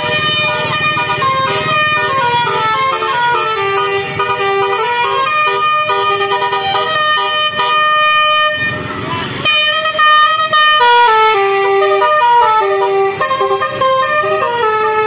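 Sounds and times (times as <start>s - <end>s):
car horn playing a melody: 0.0s - 15.0s.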